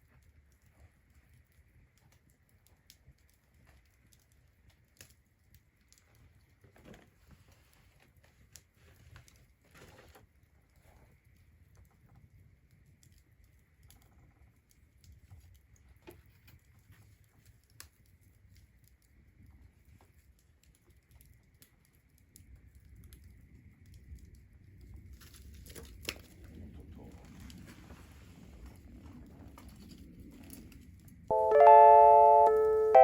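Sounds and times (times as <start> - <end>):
wood fire crackling and popping: 0.0 - 7.2, 8.0 - 27.9, 28.5 - 31.3.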